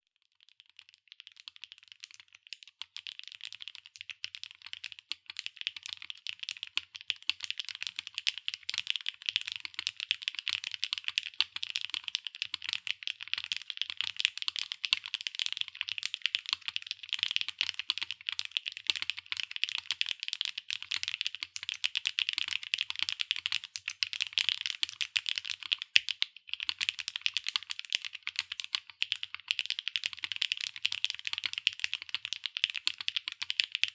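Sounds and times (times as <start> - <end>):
mechanical keyboard typing: 1.5 - 33.9.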